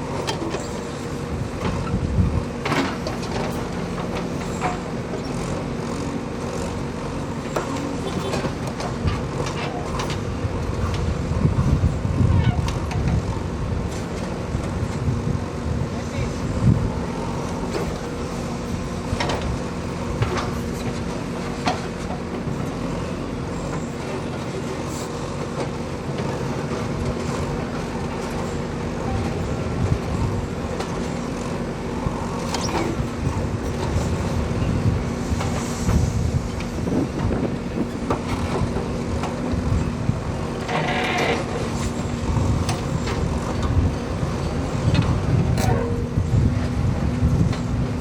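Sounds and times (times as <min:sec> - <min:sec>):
backhoe diesel engine running: 0:00.0 - 0:48.0.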